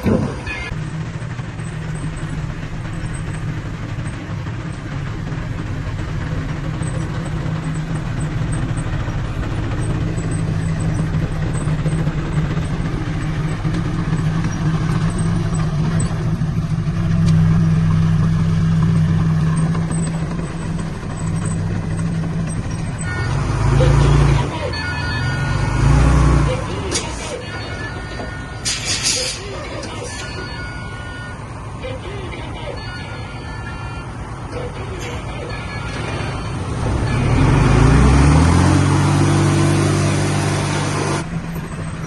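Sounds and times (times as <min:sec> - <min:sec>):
heavy diesel engine under load: 0:00.0 - 0:42.0.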